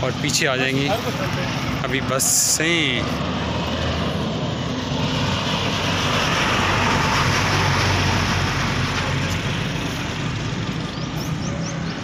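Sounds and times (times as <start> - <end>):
bus driving past: 0.0 - 12.0.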